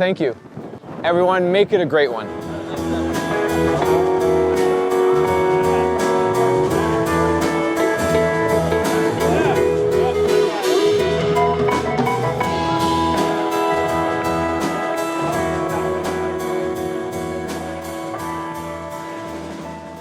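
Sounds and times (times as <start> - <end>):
background music with drum beat: 2.3 - 20.0.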